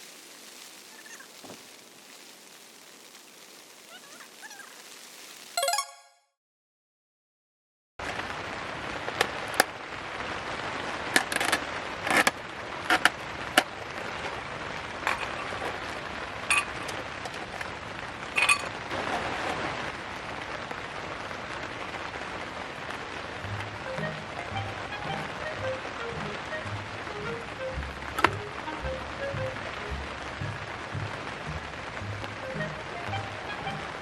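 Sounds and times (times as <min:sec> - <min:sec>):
heavy rain on a tent: 0:00.0 - 0:05.6, 0:08.0 - 0:34.0.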